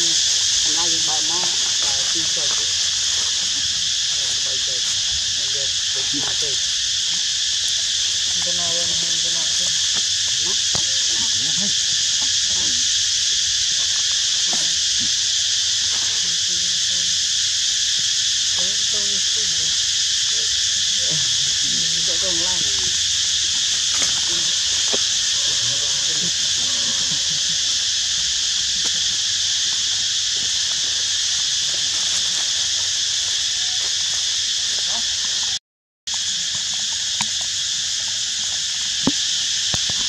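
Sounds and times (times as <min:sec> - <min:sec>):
insect chorus droning: 0:00.0 - 0:40.0.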